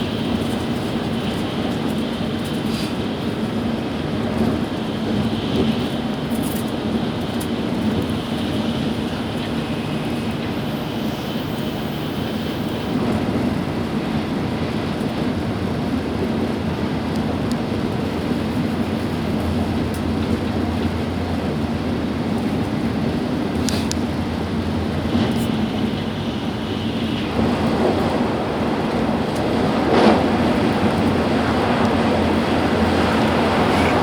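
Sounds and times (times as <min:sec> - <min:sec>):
train wheels and air rumble: 0:00.0 - 0:34.0.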